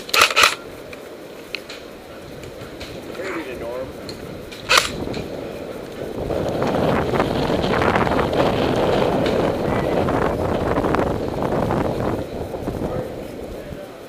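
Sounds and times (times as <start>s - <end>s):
wind and rubbing on microphone: 0.0s - 14.0s.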